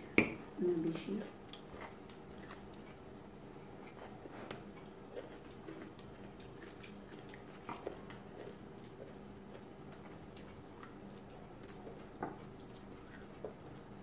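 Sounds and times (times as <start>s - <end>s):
faint steady hum: 0.0s - 14.0s
chewing crunchy salad: 0.8s - 14.0s.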